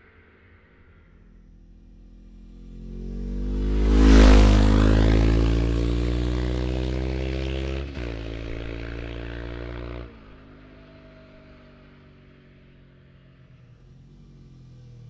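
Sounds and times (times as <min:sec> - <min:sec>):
motorcycle riding away: 0:00.3 - 0:15.0.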